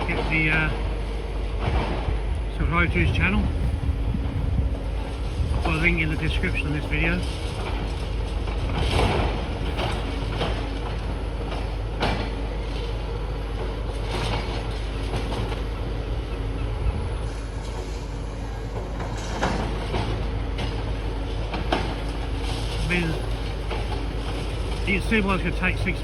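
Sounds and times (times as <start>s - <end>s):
heavy diesel machinery droning: 0.0s - 26.0s.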